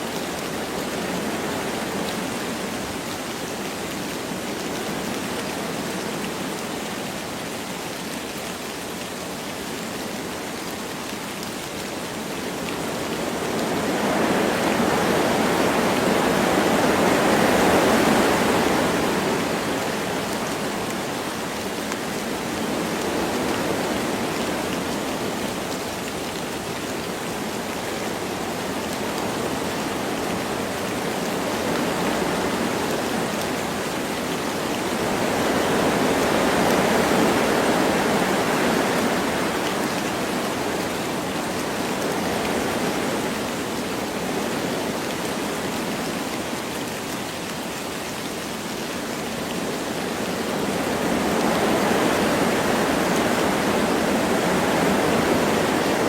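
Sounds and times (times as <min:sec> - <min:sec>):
light rain: 0:00.0 - 0:56.0
wind through trees: 0:00.0 - 0:56.0.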